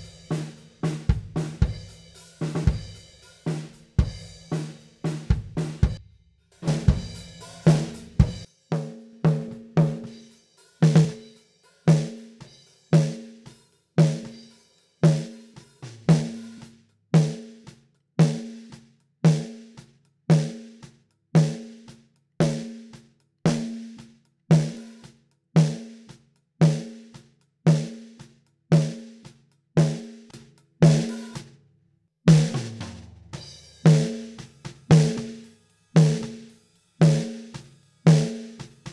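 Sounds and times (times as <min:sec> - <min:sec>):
drum kit beat with cymbals: 0:00.0 - 0:31.6, 0:32.3 - 0:38.9.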